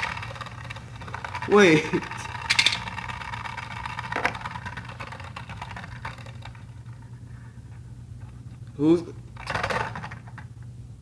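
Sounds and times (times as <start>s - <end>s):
spinning tops whirring: 0.0s - 8.6s, 9.2s - 10.5s.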